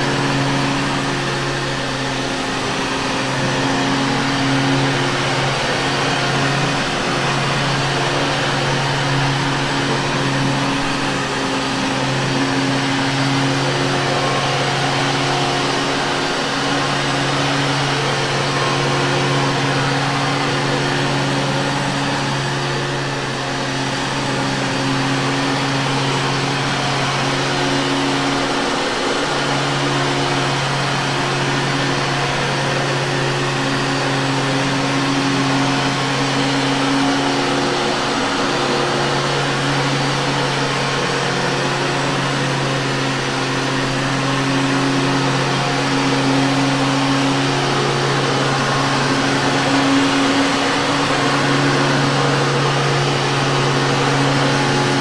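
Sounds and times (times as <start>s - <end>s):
vacuum cleaner running on carpet: 0.0s - 55.0s.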